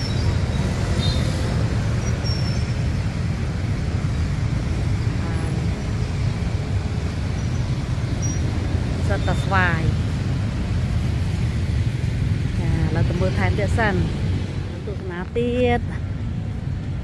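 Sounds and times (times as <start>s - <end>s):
motorbikes and cars passing: 0.0s - 17.0s.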